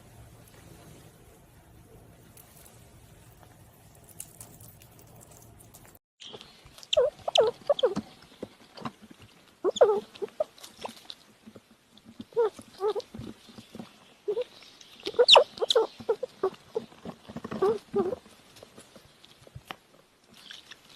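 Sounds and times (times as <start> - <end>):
chipmunk nibbling and crunching: 1.6 - 20.9.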